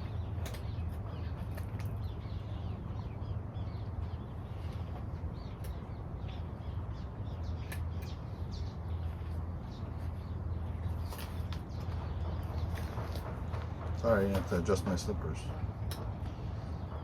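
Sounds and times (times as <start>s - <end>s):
birds chirping: 0.0s - 17.0s
low background rumble: 0.0s - 17.0s.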